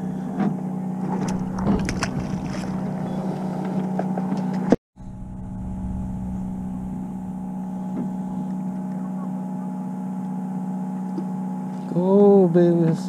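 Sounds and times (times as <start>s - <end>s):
boat engine drone: 0.0s - 12.7s.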